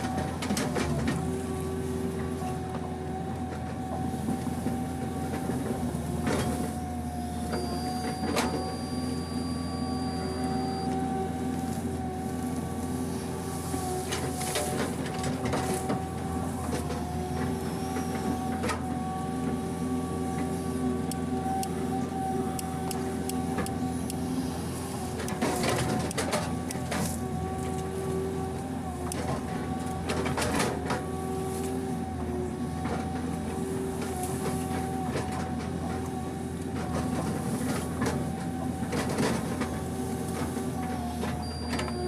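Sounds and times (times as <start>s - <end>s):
constant whine: 0.0s - 42.0s
diesel engine running: 0.0s - 42.0s.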